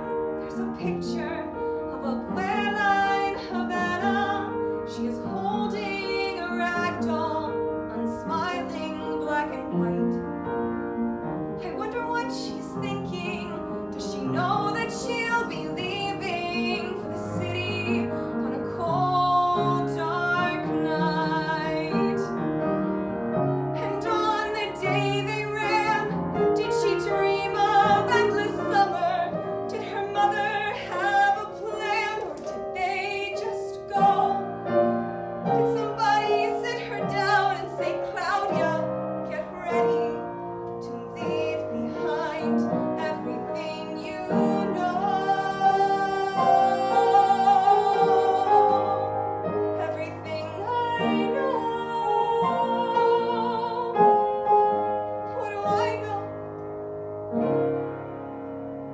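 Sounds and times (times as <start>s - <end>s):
woman singing ballad: 0.0s - 10.2s, 11.6s - 22.4s, 23.8s - 56.4s
upright piano: 0.0s - 58.9s.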